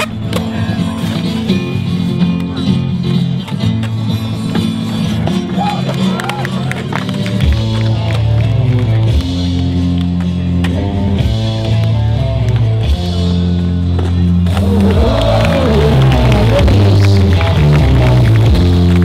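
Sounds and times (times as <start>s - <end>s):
rock background music: 0.0s - 19.0s.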